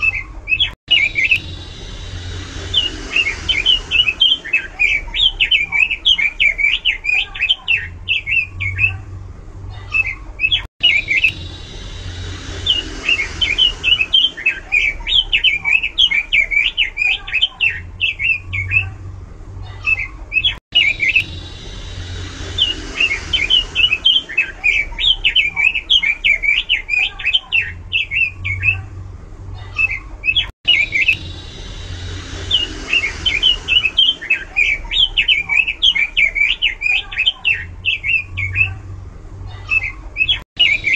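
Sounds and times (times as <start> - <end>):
bird singing warbling song: 0.0 - 9.1, 9.7 - 19.0, 19.7 - 28.9, 29.7 - 38.8, 39.4 - 40.9.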